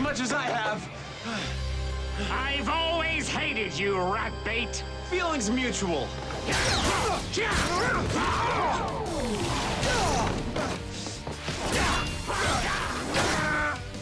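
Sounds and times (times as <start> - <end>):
action background music: 0.0 - 14.0.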